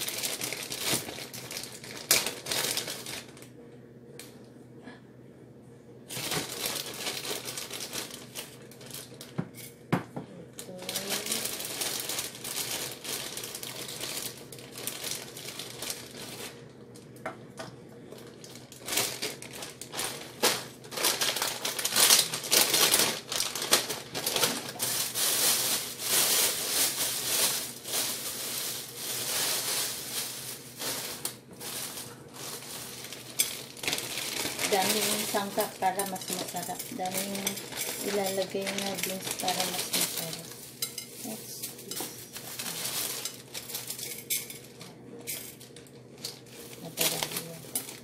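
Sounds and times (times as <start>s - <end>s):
plastic bags crinkling: 0.0s - 3.4s, 6.1s - 9.4s, 10.6s - 16.7s, 18.1s - 48.0s.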